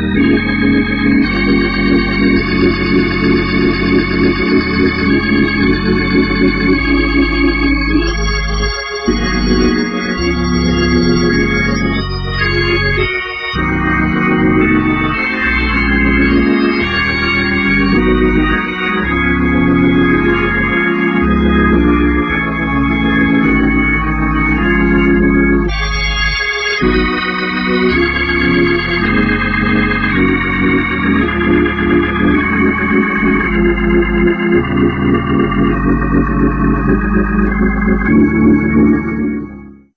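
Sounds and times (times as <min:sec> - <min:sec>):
organ playing held chords: 0:00.0 - 0:39.9.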